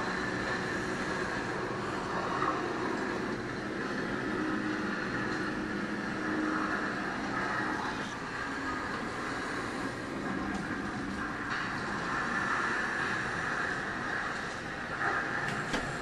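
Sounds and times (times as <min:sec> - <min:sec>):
thunderstorm rushing noise: 0:00.0 - 0:16.0.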